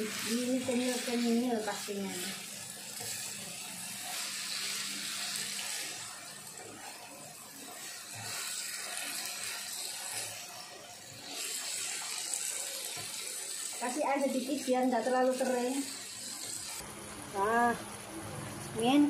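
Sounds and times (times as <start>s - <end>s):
noodles sizzling in a wok: 0.0s - 19.0s.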